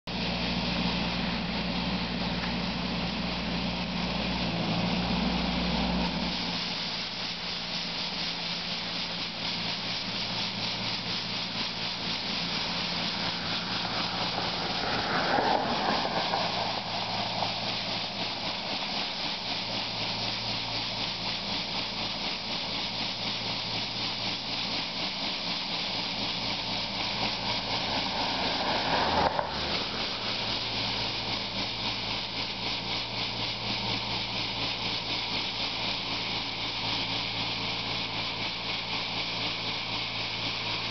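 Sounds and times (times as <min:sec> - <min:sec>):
rotary brush sweeping snow: 0:00.1 - 0:40.9
tractor engine running: 0:00.1 - 0:40.9.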